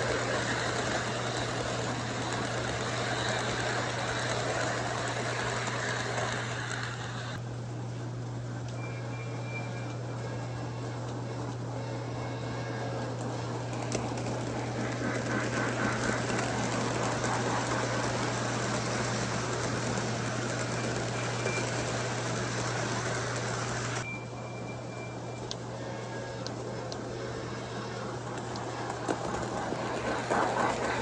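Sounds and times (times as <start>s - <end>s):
model train wheels clattering: 0.0s - 7.4s, 11.0s - 24.0s, 26.4s - 31.0s
steady low hum: 0.0s - 31.0s.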